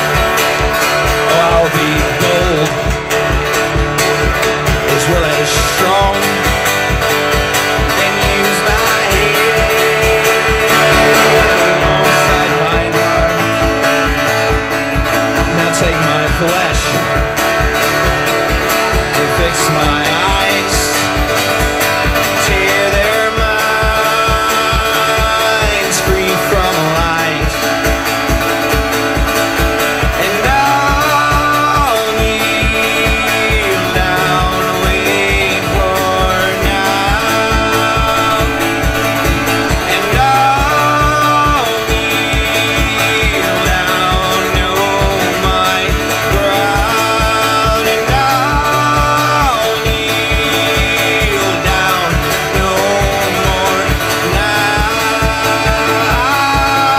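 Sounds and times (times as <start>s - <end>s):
acoustic guitar strumming: 0.0s - 56.9s
man singing: 0.0s - 56.9s.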